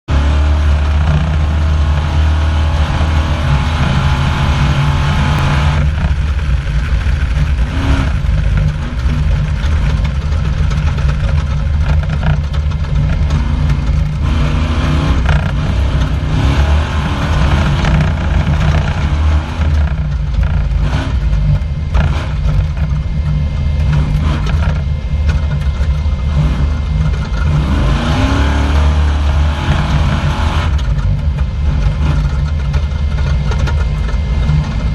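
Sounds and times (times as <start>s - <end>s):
race car engine running hard: 0.0s - 34.9s
knocks and rattles: 0.1s - 34.9s.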